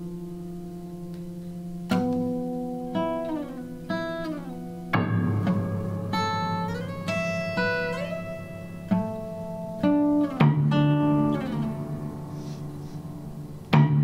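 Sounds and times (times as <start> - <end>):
piano notes ringing: 0.0 - 14.0.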